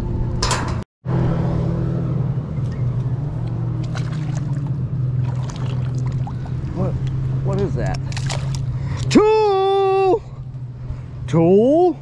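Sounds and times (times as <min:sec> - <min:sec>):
low motor drone: 0:00.0 - 0:12.0.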